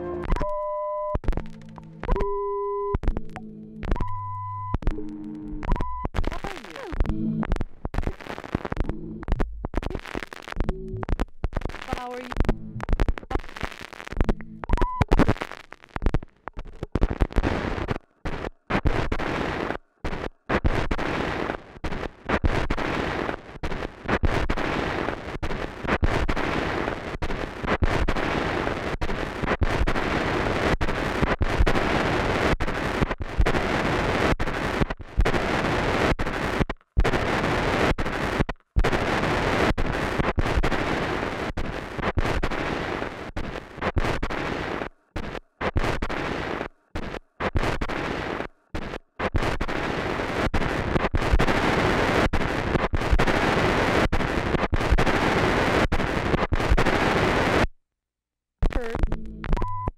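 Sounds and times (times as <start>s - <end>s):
cracked vinyl record crackling: 0.0s - 57.7s, 58.6s - 59.9s.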